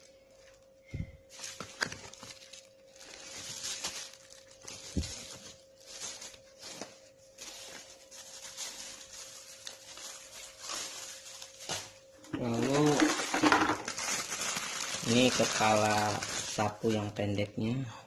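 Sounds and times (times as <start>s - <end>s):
packaging rustling: 0.0s - 17.0s
faint steady hum: 0.0s - 18.0s
plastic accessories handled: 1.2s - 16.6s.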